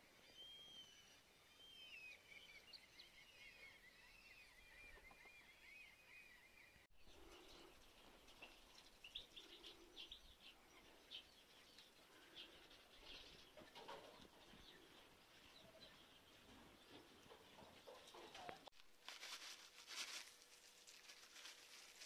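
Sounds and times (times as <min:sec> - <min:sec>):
chickens chirping and calling: 0:00.0 - 0:18.7.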